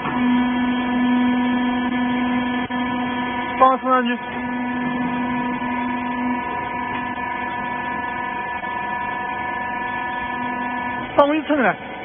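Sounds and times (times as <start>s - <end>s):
baler motor and hydraulic pump hum: 0.0s - 12.0s.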